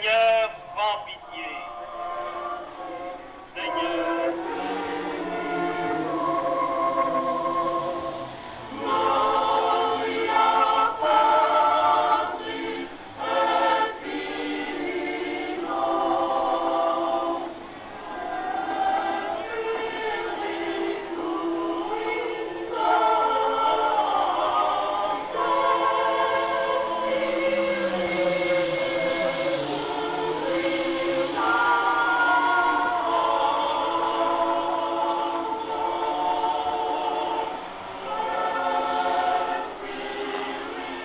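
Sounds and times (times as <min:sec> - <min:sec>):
choir singing chant: 0:00.0 - 0:41.0.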